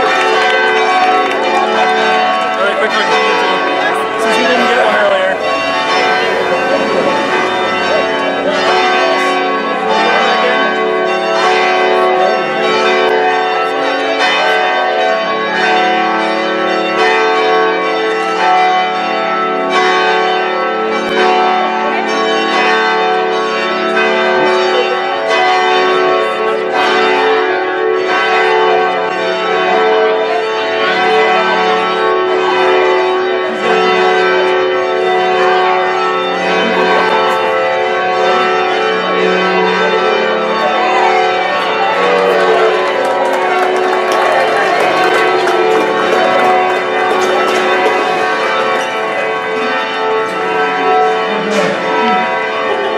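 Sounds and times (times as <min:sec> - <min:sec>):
church bells ringing a peal: 0:00.0 - 0:52.9.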